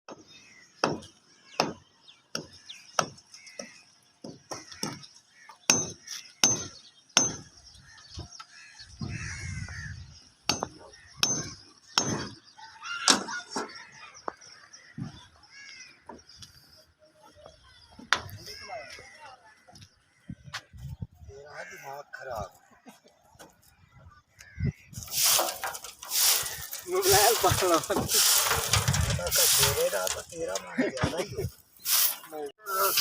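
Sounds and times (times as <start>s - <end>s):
bird calls: 0.1s - 33.0s.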